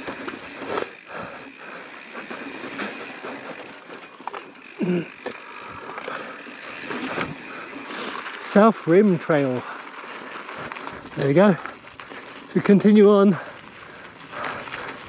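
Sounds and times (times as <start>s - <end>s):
rider grunting: 0.0s - 8.4s, 9.4s - 15.0s
bike clicking and rattling: 0.0s - 15.0s
bike tyres rolling over rock: 0.0s - 15.0s.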